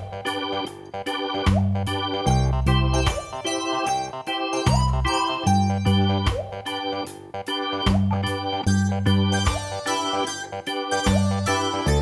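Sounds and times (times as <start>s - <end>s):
bass notes: 0.0s - 12.0s
electronic keyboard tune: 0.0s - 12.0s.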